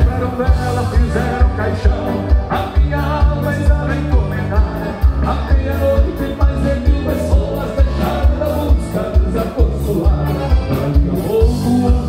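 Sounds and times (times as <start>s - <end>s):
live band music: 0.0s - 12.0s
steady bass beat: 0.0s - 12.0s.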